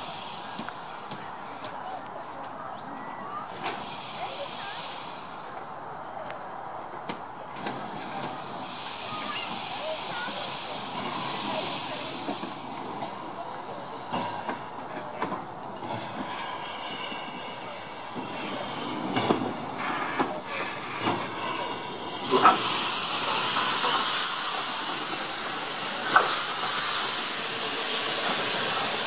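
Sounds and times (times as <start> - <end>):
steam hissing: 0.0 - 1.2, 3.4 - 5.6, 7.6 - 29.0.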